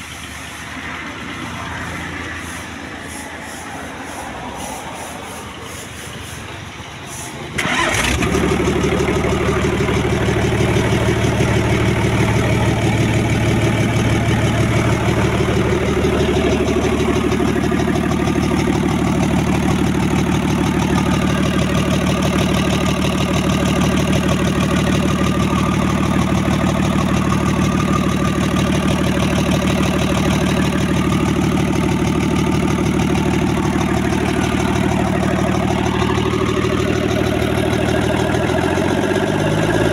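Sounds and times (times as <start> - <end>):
diesel engine starting and idling: 0.0 - 39.9.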